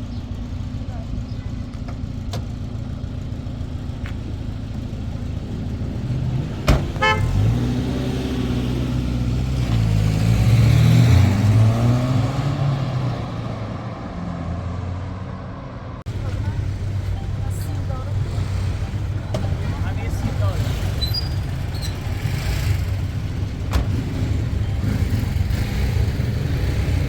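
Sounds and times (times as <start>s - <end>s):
car engine revving: 4.8s - 27.0s.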